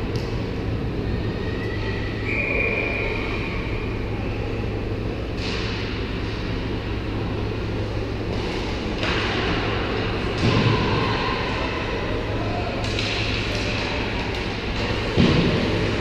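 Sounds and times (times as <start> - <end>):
low rink hum: 0.0 - 16.0.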